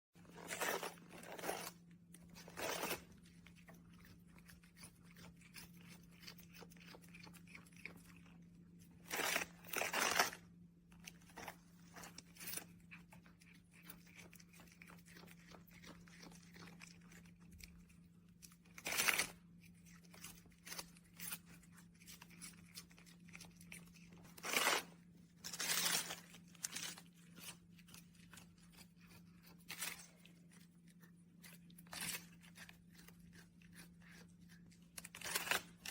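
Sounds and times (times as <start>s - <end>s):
crunching and scratching in cat litter: 0.1s - 35.9s.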